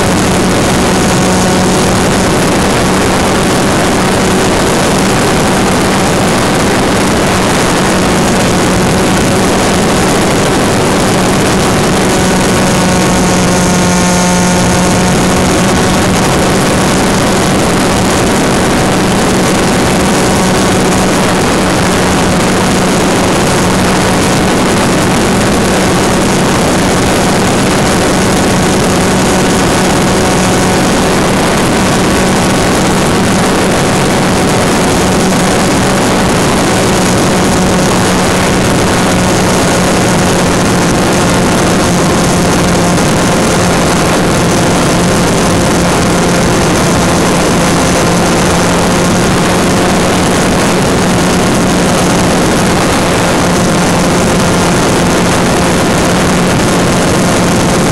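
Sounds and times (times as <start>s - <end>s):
loud hiss of noise: 0.0s - 57.9s.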